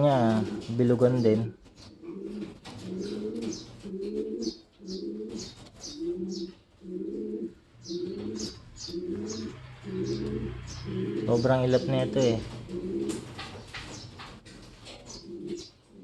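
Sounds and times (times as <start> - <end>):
birds chirping faintly: 0.0 - 16.0
pigeon cooing: 1.8 - 16.0.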